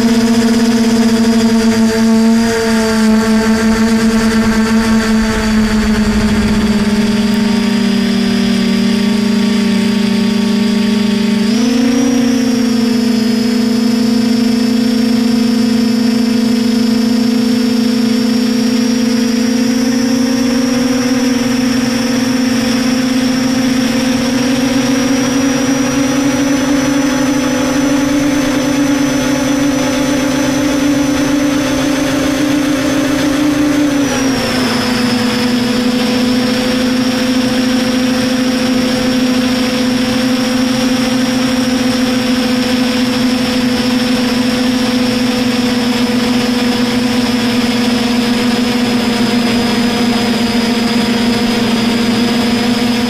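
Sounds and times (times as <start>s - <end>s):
quadcopter motors humming: 0.0s - 53.0s.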